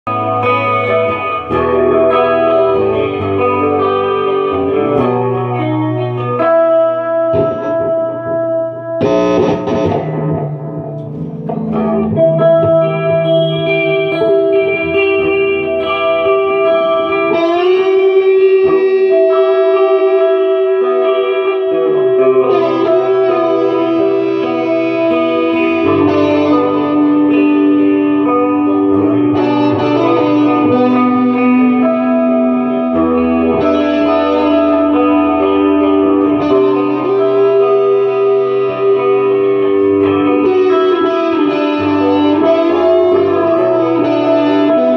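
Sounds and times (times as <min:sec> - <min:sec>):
electric guitar with effects: 0:00.0 - 0:44.9.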